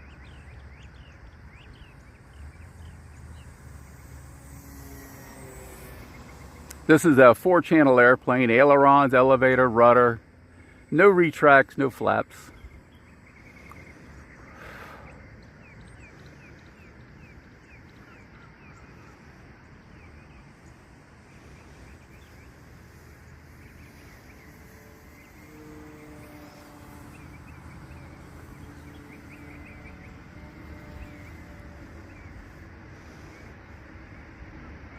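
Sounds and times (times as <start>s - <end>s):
faint steady hum: 0.0s - 34.9s
low wind rumble: 0.0s - 34.9s.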